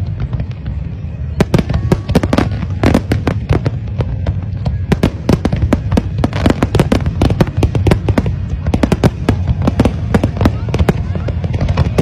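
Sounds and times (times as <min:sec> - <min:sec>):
fireworks bangs and crackles: 0:00.0 - 0:12.0
steady low rumble: 0:00.0 - 0:12.0.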